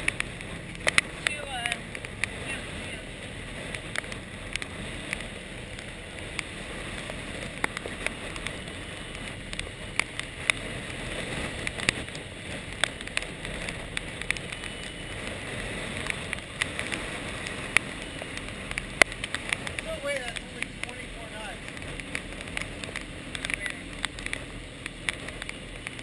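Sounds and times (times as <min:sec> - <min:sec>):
rain and spray striking camera: 0:00.0 - 0:26.0
sea: 0:00.0 - 0:26.0.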